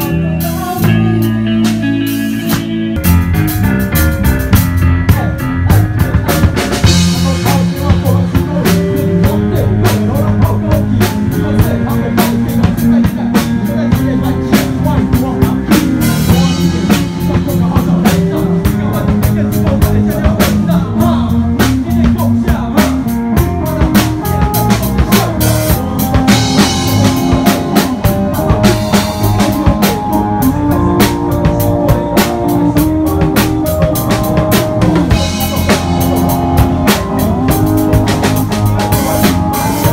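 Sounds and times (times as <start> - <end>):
band music with drum beat: 0.0 - 39.9.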